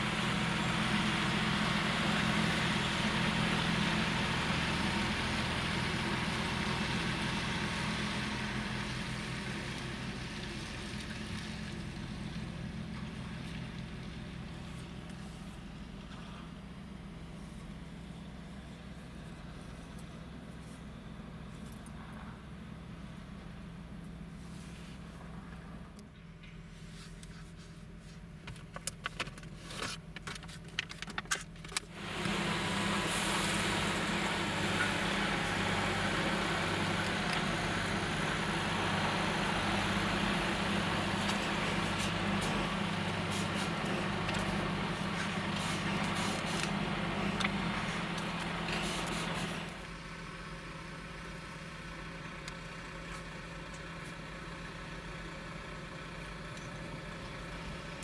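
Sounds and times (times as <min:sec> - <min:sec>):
car idling: 0:00.0 - 0:58.0.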